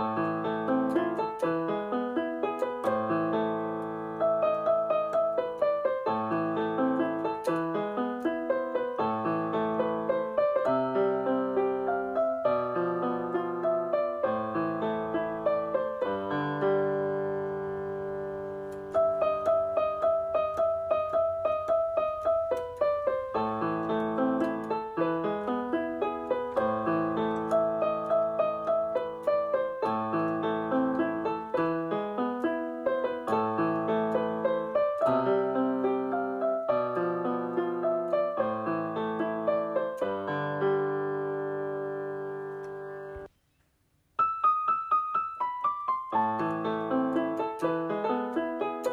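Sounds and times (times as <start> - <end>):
gentle piano music: 0.0 - 43.3, 44.2 - 48.9.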